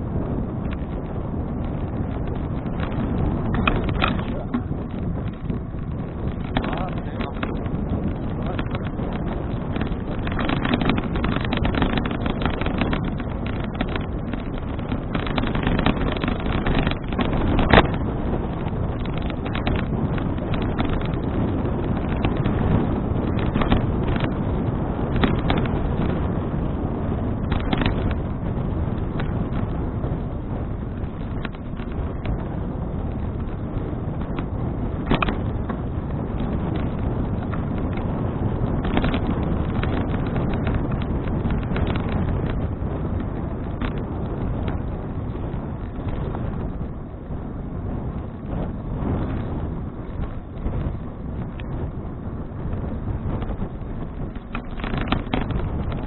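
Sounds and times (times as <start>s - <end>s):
wind buffeting microphone: 0.0s - 56.0s
bicycle clicks and knocks: 0.1s - 56.0s.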